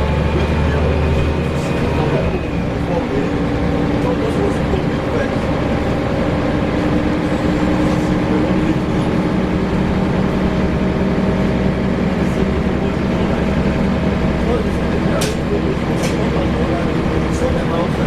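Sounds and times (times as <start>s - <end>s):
bus engine drone: 0.0s - 18.0s
road rumble: 0.0s - 18.0s.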